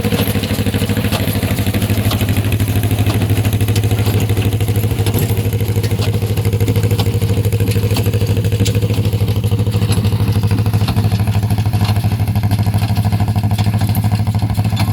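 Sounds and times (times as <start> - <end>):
baler clicks and clatter: 0.0 - 14.9
tractor engine pulsing: 0.0 - 14.9.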